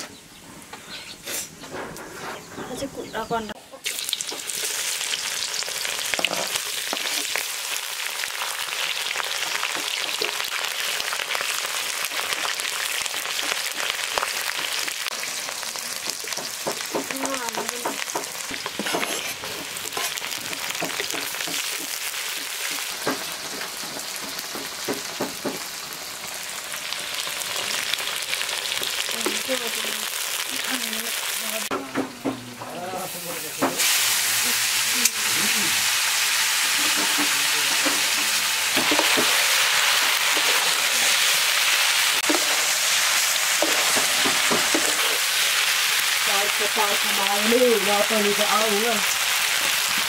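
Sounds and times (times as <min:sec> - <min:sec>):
food sizzling in pan: 0:03.8 - 0:50.0.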